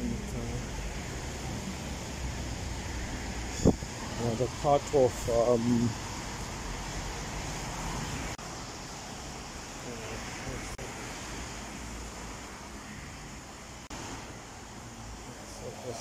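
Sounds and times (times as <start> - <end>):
cars passing on wet road: 0.0 - 16.0.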